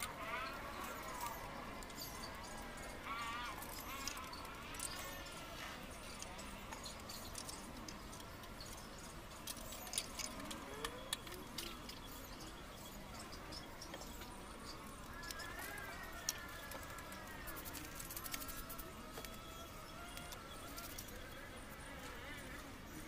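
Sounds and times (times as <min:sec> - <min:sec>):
drawn-out animal call: 0:00.0 - 0:07.6, 0:09.4 - 0:23.0.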